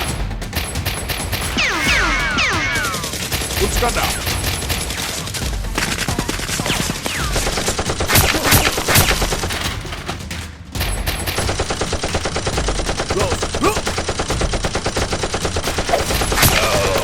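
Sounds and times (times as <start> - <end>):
rapid automatic gunfire: 0.0 - 17.0.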